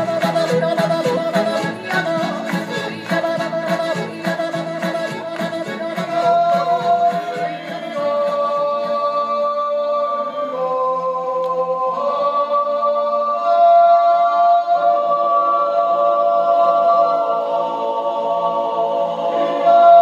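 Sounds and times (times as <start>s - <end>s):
voices singing a cappella: 0.0s - 20.0s.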